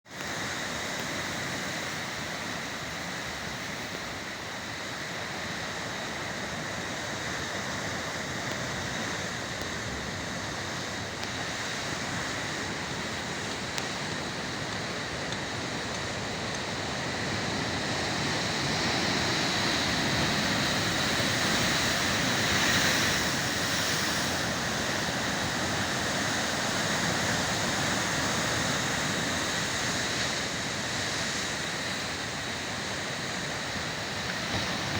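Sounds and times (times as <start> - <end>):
waves breaking: 5.5 - 34.9.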